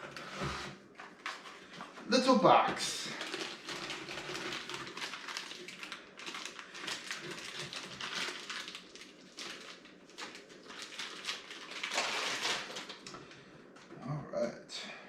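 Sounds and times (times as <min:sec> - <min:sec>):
packaging rustling: 0:00.0 - 0:02.0, 0:03.1 - 0:13.4.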